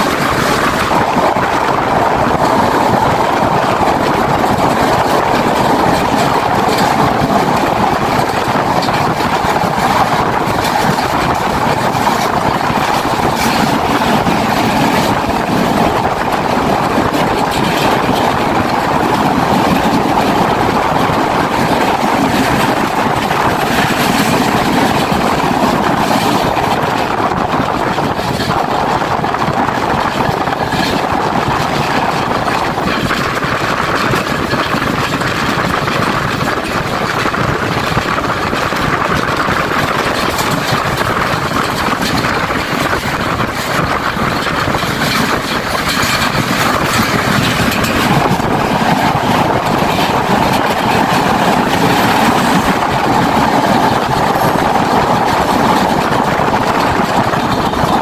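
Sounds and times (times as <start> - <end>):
train wheels rolling: 0.0 - 58.0.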